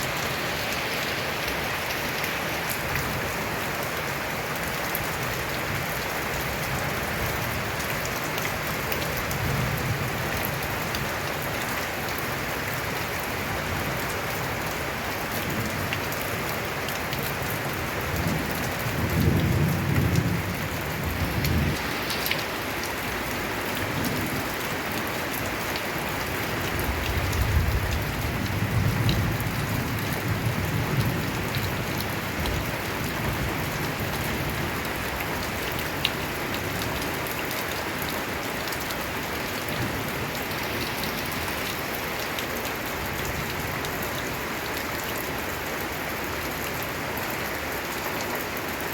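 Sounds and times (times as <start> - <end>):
rain on a tin roof: 0.0 - 48.9.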